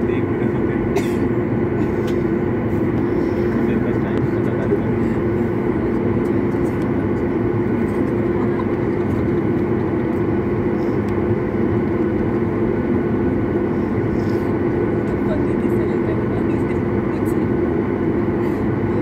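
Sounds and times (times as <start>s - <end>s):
jet engines droning in cabin: 0.0s - 19.0s.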